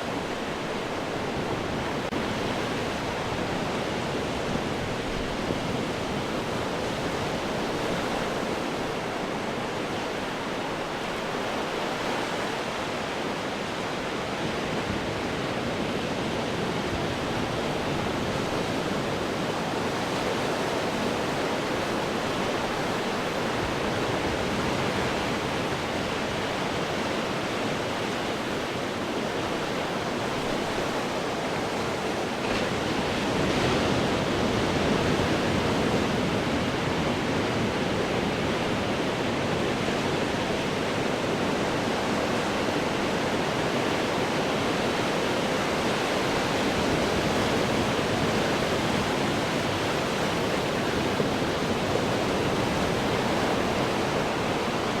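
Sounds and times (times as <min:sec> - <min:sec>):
ocean waves breaking on rocks: 0:00.1 - 0:55.0.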